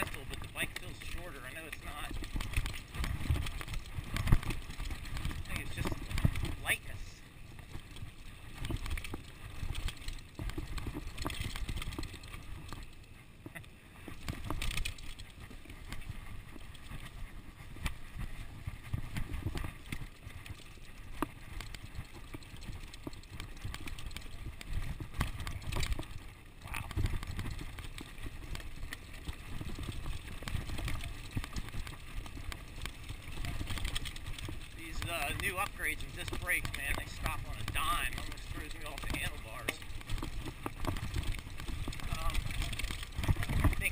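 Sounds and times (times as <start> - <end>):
bike rattling and knocking: 0.0 - 43.9
bike tyres rumbling on dirt: 0.0 - 43.9.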